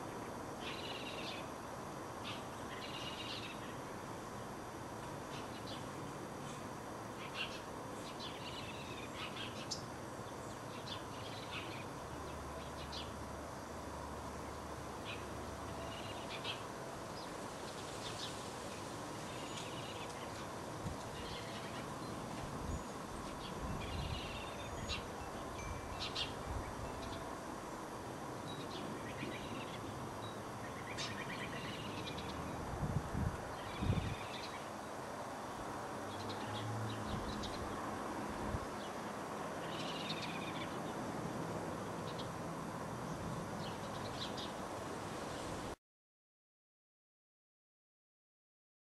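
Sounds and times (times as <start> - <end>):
steady background hiss: 0.0 - 45.8.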